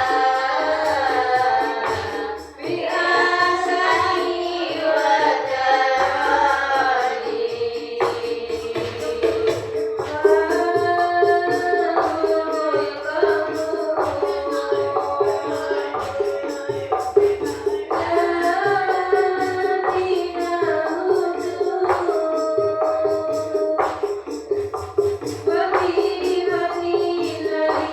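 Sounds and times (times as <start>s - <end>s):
frame drums: 0.0s - 27.9s
jingling tambourine: 0.0s - 27.9s.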